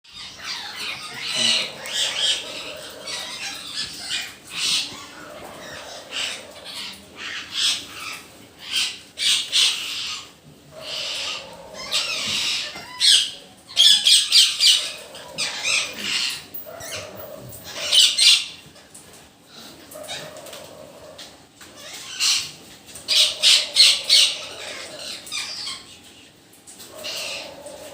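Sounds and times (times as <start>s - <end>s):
parrots screeching: 0.1s - 18.9s, 19.6s - 26.2s, 26.8s - 27.9s.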